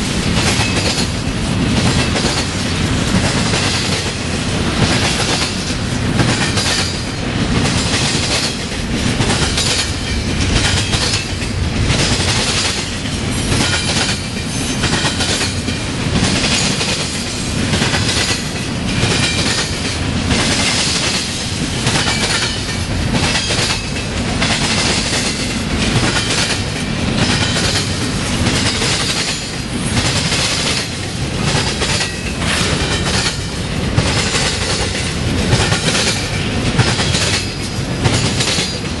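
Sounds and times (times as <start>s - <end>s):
rumble of wheels on rail: 0.0s - 39.0s
train wheels clacking over rail joints: 0.0s - 39.0s.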